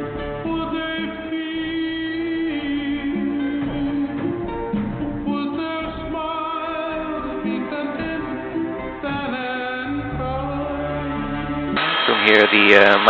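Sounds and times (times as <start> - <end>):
song with singing and guitar: 0.0 - 13.0.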